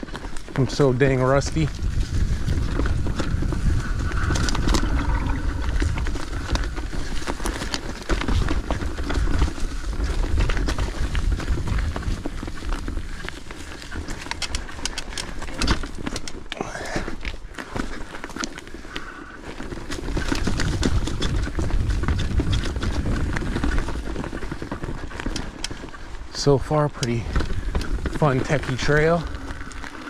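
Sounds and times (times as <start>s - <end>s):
bike rattling over rocks: 0.0s - 30.0s
bike tyres rumbling over dirt: 0.0s - 30.0s.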